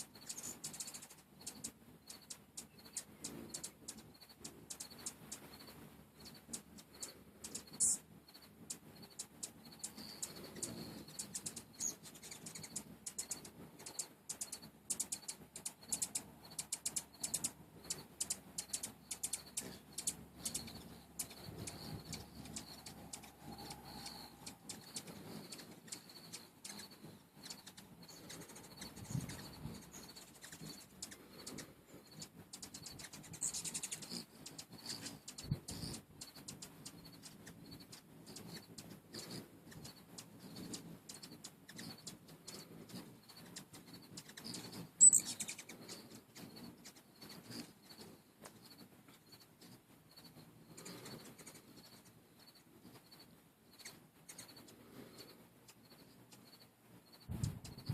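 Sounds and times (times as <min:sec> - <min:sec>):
hummingbird wings whirring: 0:00.0 - 0:57.9.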